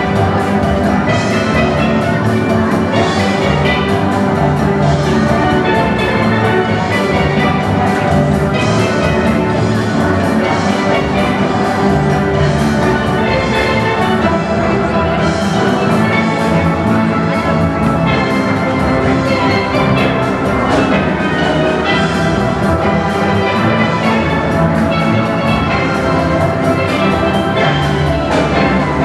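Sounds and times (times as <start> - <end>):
drums: 0.0 - 29.0
steel band playing: 0.0 - 29.0.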